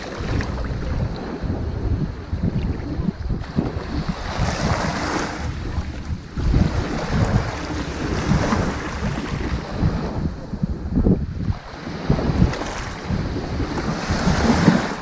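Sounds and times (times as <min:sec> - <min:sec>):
ocean waves on beach: 0:00.0 - 0:15.0
wind on microphone: 0:00.0 - 0:15.0.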